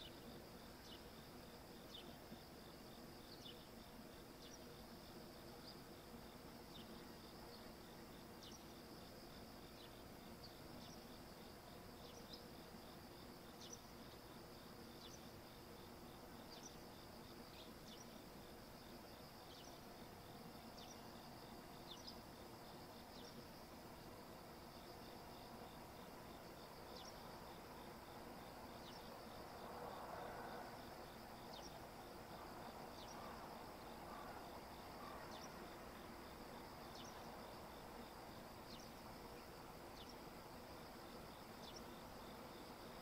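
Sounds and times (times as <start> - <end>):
cricket-like insect trill: 0.0 - 43.0.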